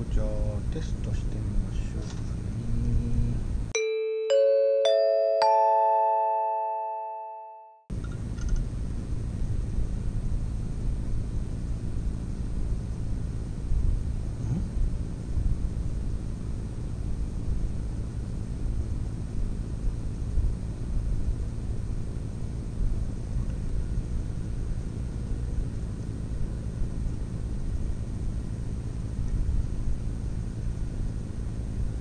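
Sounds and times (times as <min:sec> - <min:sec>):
faint high-pitched whine: 0:00.0 - 0:03.7, 0:07.9 - 0:32.0
low background rumble: 0:00.0 - 0:03.8, 0:07.9 - 0:32.0.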